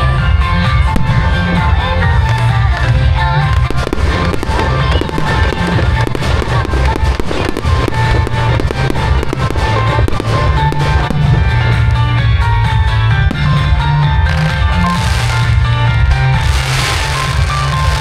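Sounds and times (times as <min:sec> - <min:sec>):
music with heavy bass beat: 0:00.0 - 0:18.0
fireworks bursting and crackling: 0:00.2 - 0:18.0.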